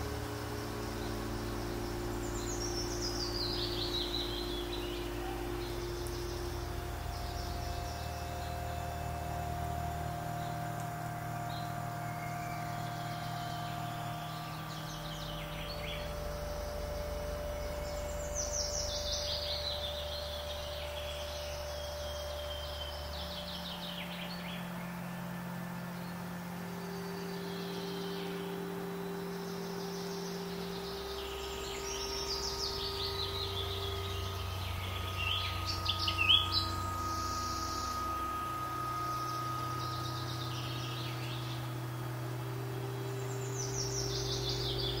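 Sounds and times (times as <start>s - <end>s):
birds chirping and trilling: 0.0s - 45.0s
low sustained drone: 0.0s - 45.0s.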